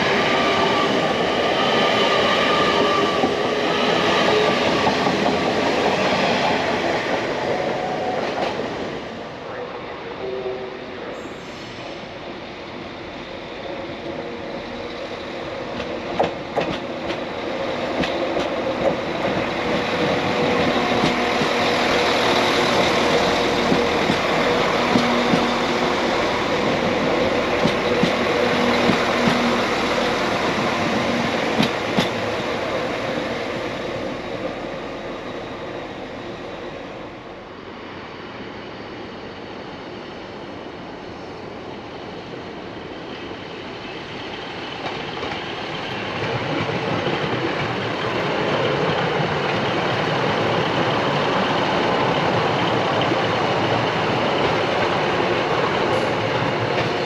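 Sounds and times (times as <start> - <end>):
train passing on rails: 0.0 - 57.0.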